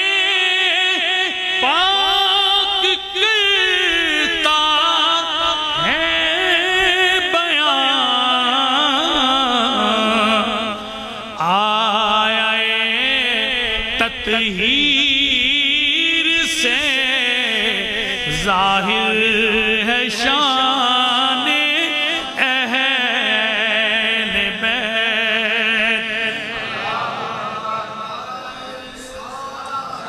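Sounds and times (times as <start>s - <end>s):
man singing devotional poem: 0.0s - 30.0s.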